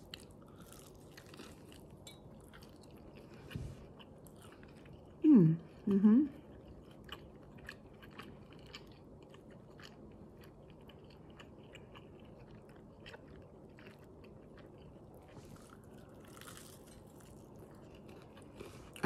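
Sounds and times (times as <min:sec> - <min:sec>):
person chewing food: 0:00.0 - 0:05.2, 0:06.3 - 0:19.0.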